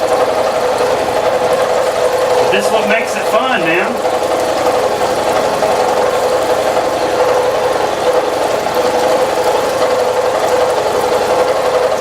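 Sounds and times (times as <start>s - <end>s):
coolant hiss: 0.0s - 12.0s
milling machine humming: 0.0s - 12.0s.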